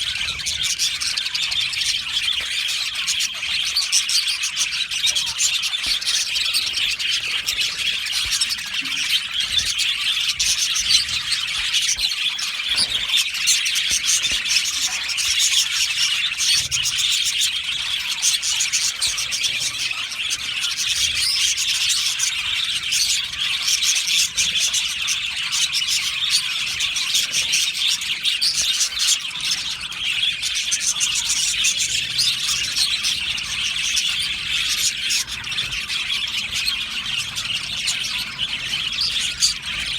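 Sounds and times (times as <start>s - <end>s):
budgies chirping and chattering: 0.0s - 39.9s.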